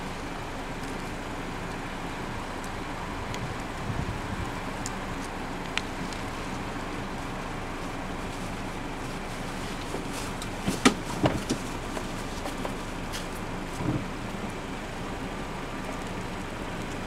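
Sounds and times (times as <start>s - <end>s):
steady low rumble: 0.0s - 15.7s
hooves clopping on asphalt: 0.2s - 17.0s.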